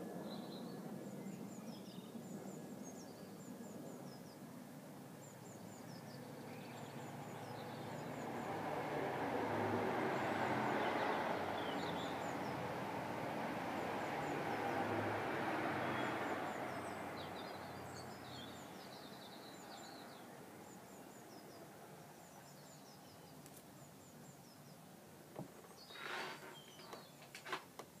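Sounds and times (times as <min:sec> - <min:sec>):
small birds chirping: 0:00.1 - 0:04.5, 0:05.2 - 0:09.0, 0:10.1 - 0:28.0.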